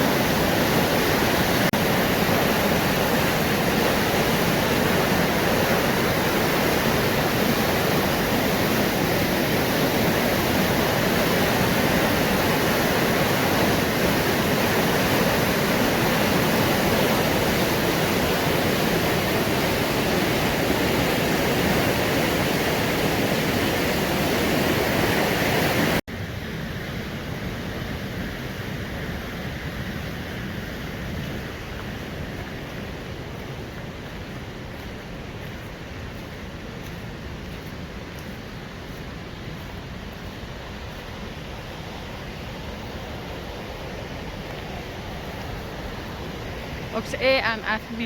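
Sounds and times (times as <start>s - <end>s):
river water rushing over rapids: 0.0s - 48.0s.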